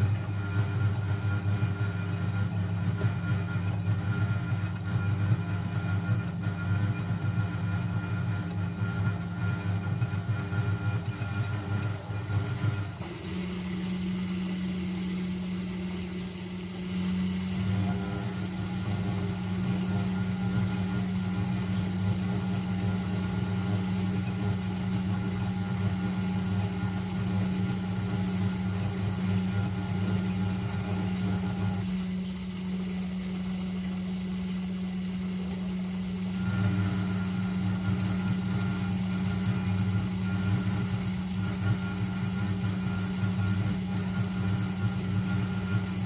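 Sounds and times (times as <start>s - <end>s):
washing machine humming: 0.0s - 46.0s.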